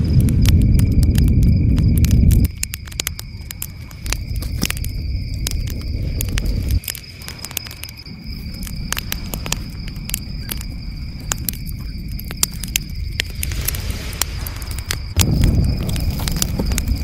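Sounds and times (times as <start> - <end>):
crickets trilling: 0.0 - 17.0
fire crackling and popping: 0.0 - 17.0.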